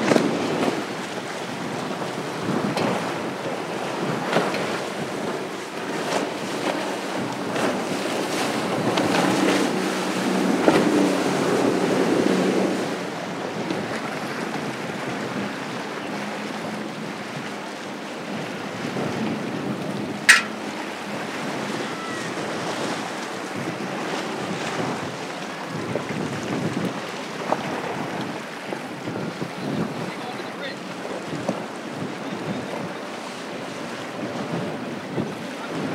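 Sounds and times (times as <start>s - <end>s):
boat engine hum: 0.0s - 35.9s
hull slapping on water: 0.0s - 35.9s
rush of wake and spray: 0.0s - 35.9s
wind on the microphone: 0.0s - 35.9s.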